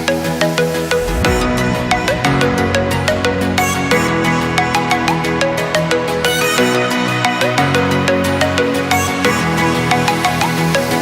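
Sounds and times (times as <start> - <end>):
electronic music with synth melody: 0.0 - 11.0.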